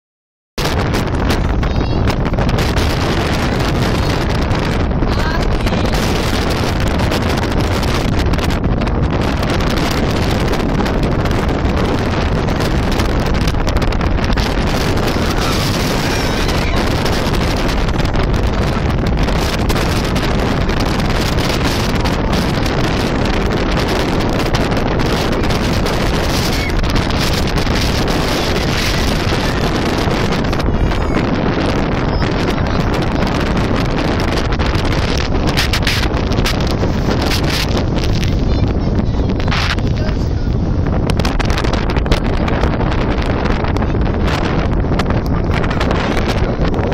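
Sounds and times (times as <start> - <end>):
wind noise on microphone: 0.6 - 46.9.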